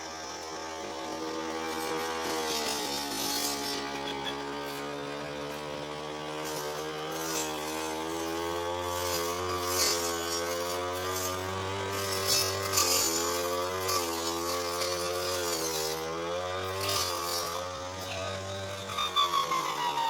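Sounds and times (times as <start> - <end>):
brush cutter engine cutting grass: 0.0 - 20.0.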